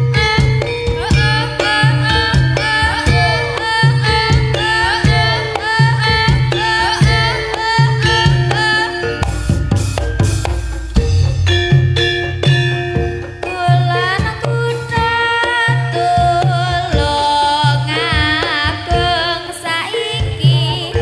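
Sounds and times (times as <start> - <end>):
hand drums beating: 0.0 - 21.0.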